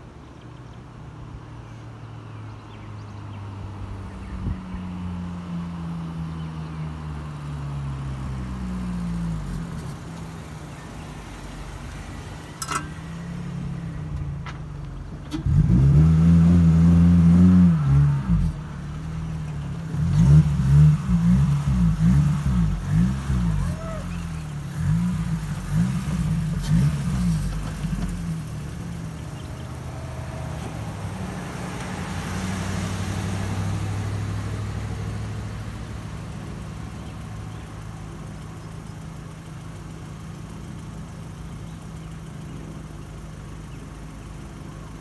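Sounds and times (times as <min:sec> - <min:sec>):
car engine running and revving: 0:00.0 - 0:45.0.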